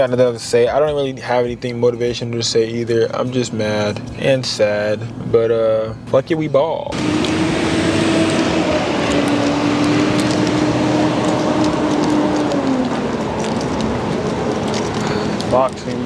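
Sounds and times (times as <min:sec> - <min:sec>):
car engine hum: 0:00.0 - 0:16.0
road noise: 0:00.0 - 0:16.0.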